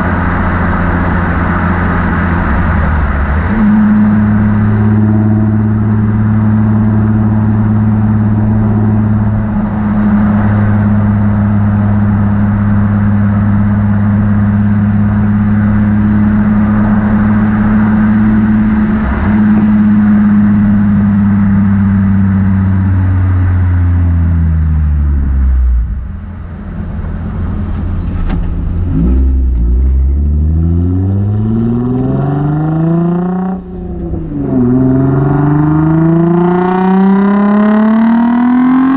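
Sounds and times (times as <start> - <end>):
car engine revving while driving: 0.0 - 38.9.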